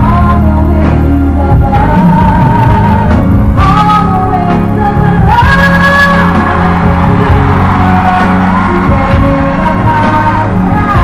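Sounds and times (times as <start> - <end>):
band accompaniment: 0.0 - 11.0
woman singing power ballad: 0.0 - 11.0.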